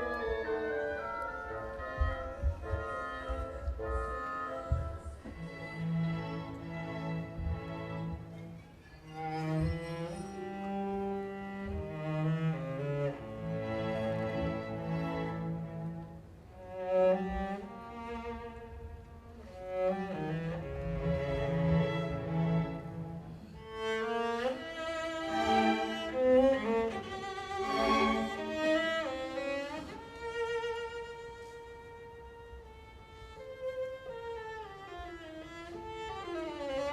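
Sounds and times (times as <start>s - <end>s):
cello: 0.0s - 36.9s
string orchestra playing: 0.0s - 36.9s
violin: 0.0s - 36.9s.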